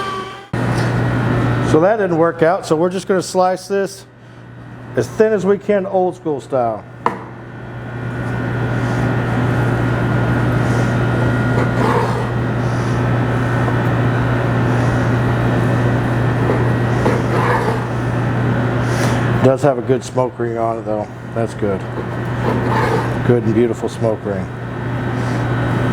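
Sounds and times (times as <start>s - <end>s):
machine hum with low drone: 0.0s - 25.9s.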